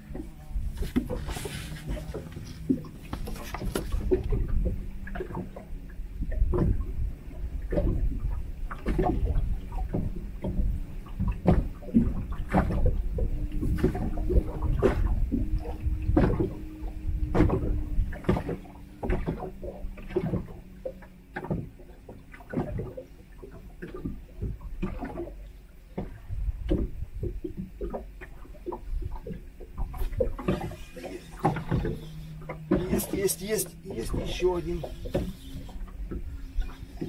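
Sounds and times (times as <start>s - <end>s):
knocks and taps in boat: 0.0s - 37.0s.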